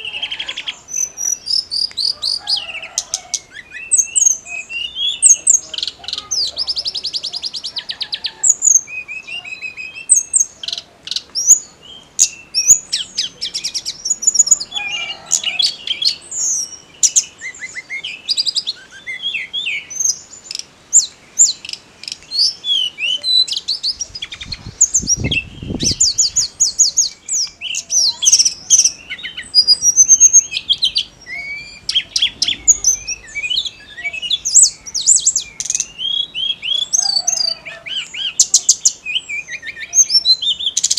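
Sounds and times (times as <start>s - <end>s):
bird singing high chirps and trills: 0.0s - 40.9s.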